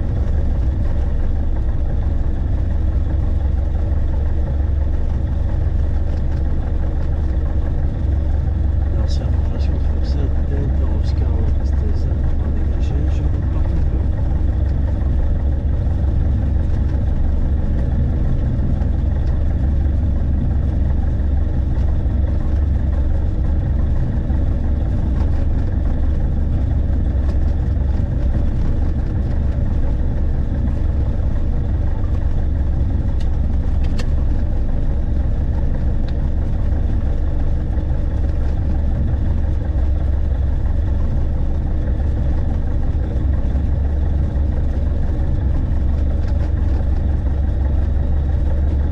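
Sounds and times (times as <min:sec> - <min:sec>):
deep low hum: 0:00.0 - 0:48.9
light aircraft engine droning: 0:00.0 - 0:48.9.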